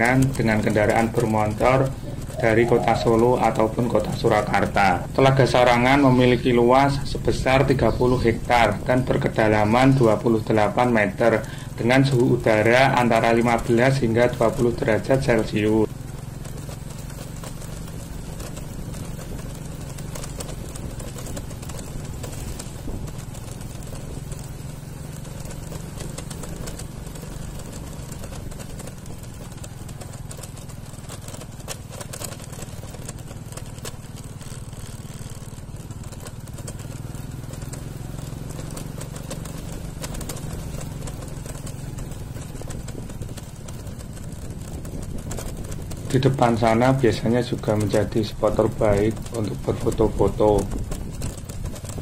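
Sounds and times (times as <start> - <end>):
road noise: 0.0 - 52.0
vehicle engine droning: 0.0 - 52.0.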